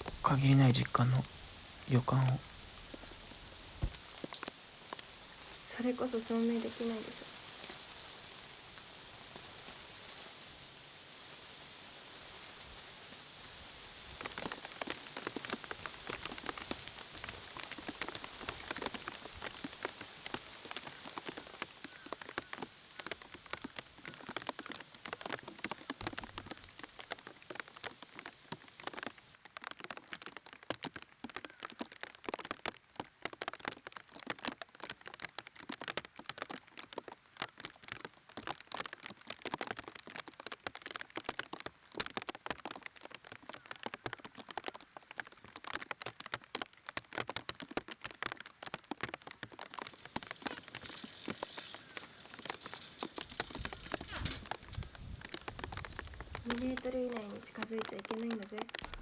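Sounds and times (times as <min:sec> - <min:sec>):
rain pattering on a surface: 0:00.0 - 0:59.0.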